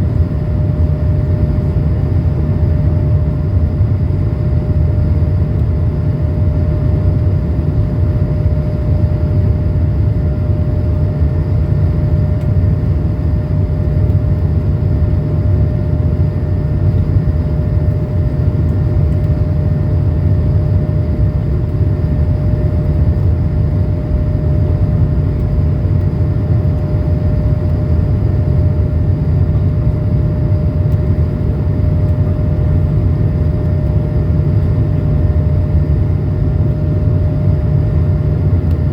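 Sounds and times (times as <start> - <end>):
aircraft cabin engine rumble: 0.0 - 38.9
steady humming tone: 0.0 - 38.9.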